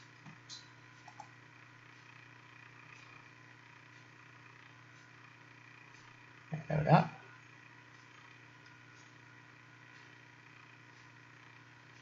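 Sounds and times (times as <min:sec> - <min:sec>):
faint recording hum and hiss: 0:00.0 - 0:12.0.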